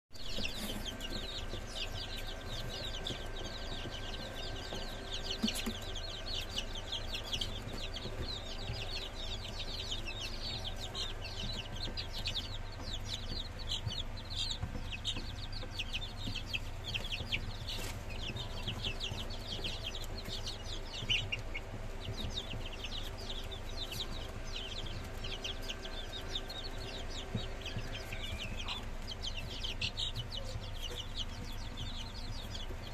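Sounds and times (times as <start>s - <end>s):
chicks peeping: 0.1s - 32.9s
steady low hum: 0.2s - 32.9s.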